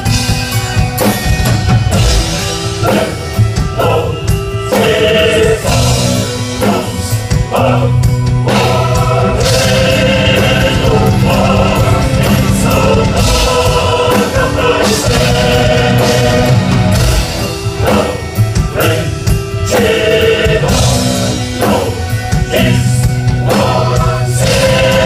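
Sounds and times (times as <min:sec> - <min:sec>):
metal band playing live: 0:00.0 - 0:25.0.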